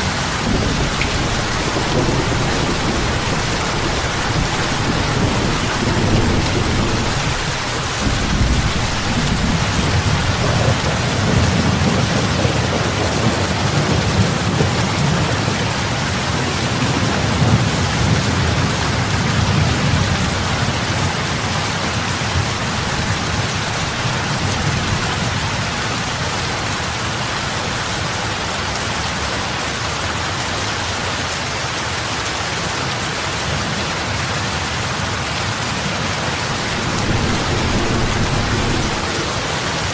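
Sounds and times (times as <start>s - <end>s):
heavy rain falling on water: 0.0s - 39.9s.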